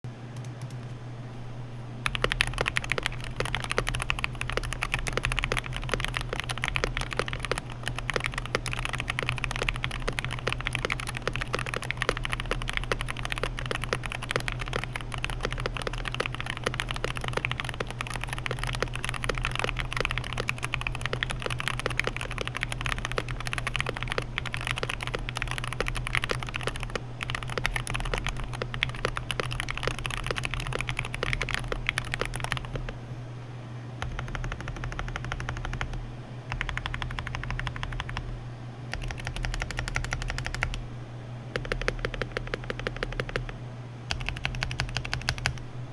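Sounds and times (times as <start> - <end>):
steady low hum: 0.1 - 45.9
fast keyboard typing: 2.0 - 33.0, 34.0 - 38.3, 38.9 - 40.8, 41.6 - 45.6.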